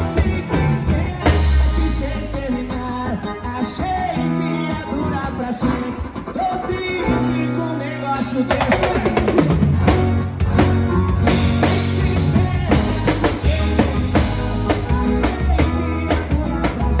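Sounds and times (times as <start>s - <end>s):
music with drum kit: 0.0s - 17.0s.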